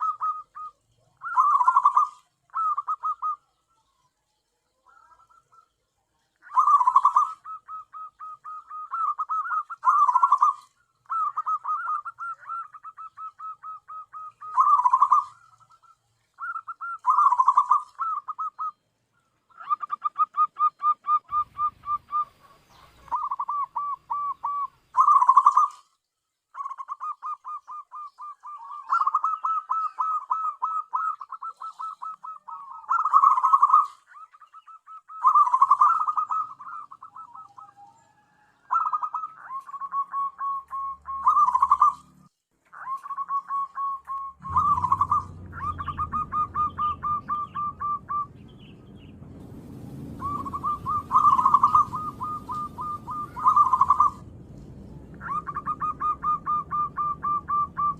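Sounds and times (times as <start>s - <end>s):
dove cooing: 0.0s - 3.8s, 4.8s - 5.8s, 6.4s - 18.8s, 19.5s - 25.9s, 26.6s - 57.9s.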